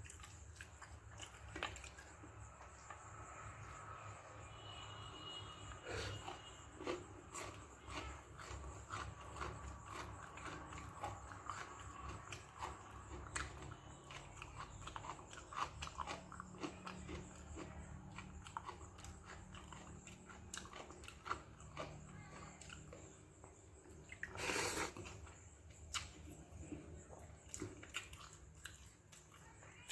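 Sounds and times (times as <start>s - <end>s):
person chewing food: 0.0s - 29.9s.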